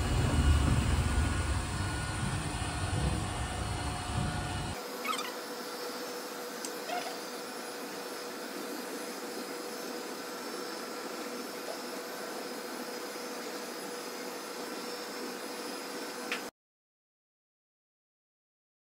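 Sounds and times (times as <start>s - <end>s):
robot vacuum whirring: 0.0s - 16.4s.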